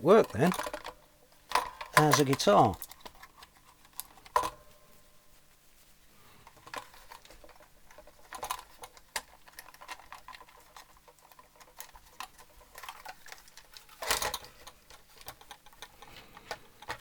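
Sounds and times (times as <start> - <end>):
clicks and taps of small parts: 0.2 - 4.6, 6.6 - 17.0.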